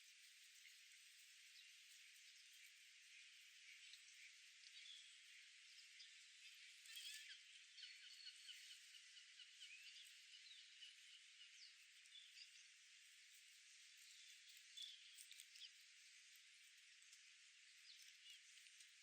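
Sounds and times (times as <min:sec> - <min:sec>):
songbirds chirping: 0:00.2 - 0:19.0.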